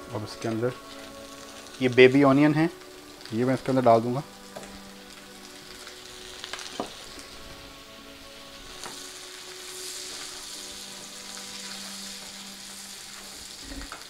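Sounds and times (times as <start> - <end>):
sauce sizzling in a frying pan: 0.0 - 14.0.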